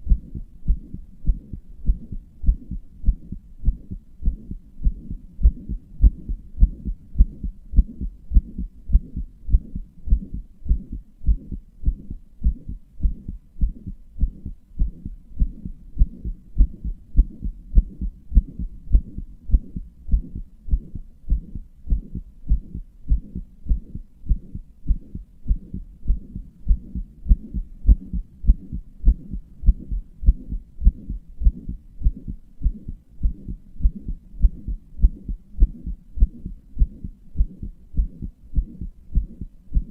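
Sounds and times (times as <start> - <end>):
human heartbeat: 0.0 - 39.9.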